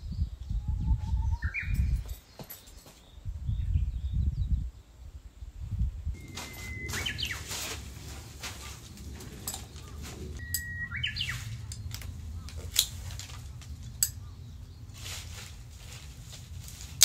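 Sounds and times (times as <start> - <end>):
bird singing warbling song: 0.0 - 5.5, 6.1 - 16.2.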